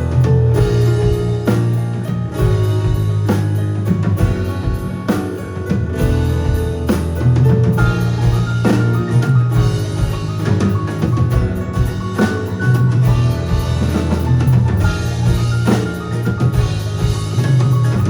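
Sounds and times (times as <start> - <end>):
drum kit beat: 0.0 - 18.0
live band playing: 0.0 - 18.0.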